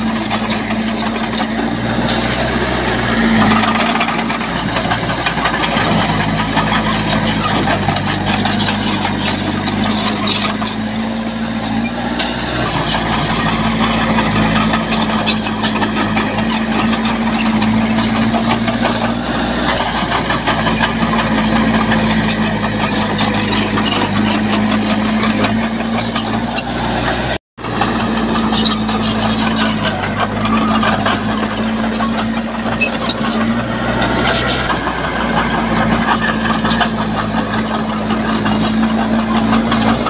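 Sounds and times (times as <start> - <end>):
diesel machinery running: 0.0 - 40.0.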